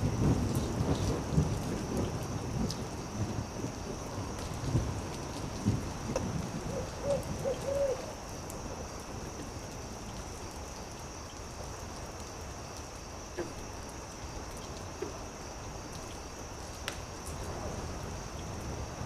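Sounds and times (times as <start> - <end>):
campfire crackles: 0.0 - 19.0.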